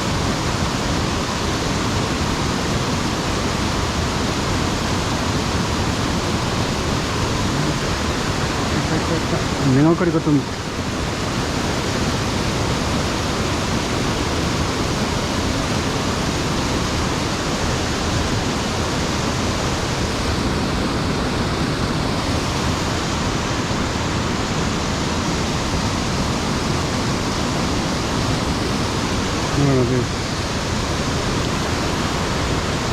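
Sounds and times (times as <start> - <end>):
mountain stream rushing over rocks: 0.0 - 32.9.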